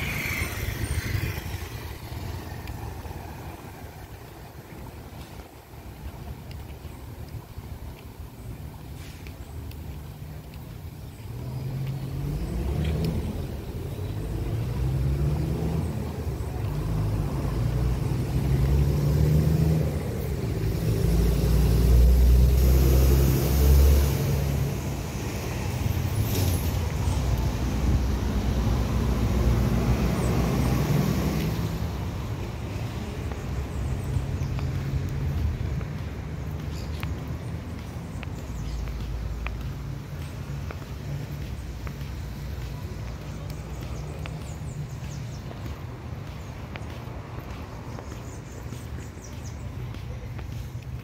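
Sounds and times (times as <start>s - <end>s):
road traffic passing: 0.0s - 51.0s.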